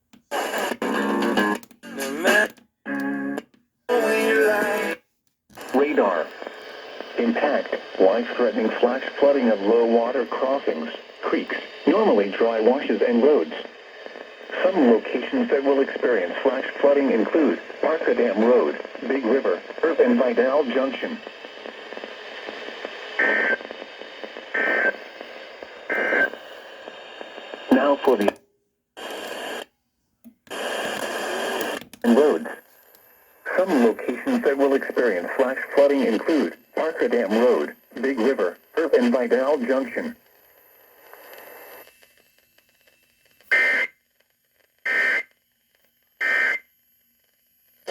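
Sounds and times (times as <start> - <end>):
radio hiss: 0.3 - 5.0, 5.6 - 28.4, 29.0 - 29.6, 30.5 - 42.0, 43.5 - 43.9, 44.8 - 45.3, 46.2 - 46.6.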